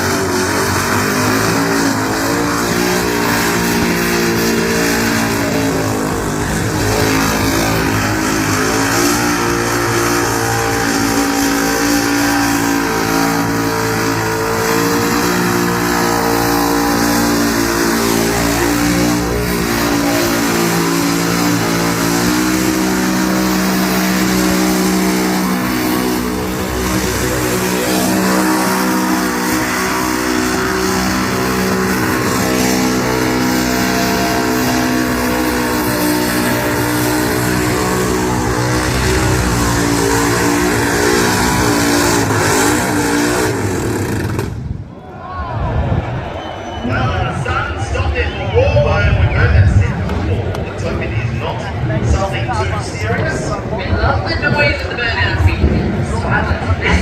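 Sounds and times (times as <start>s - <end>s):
car engine at high revs: 0.0s - 44.9s, 49.0s - 57.0s.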